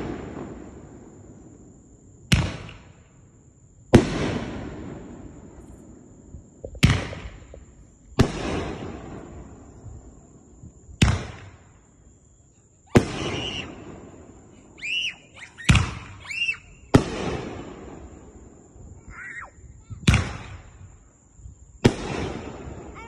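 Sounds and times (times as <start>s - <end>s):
firework shells bursting with echo: 0.0s - 18.8s, 20.0s - 21.1s, 21.8s - 23.0s.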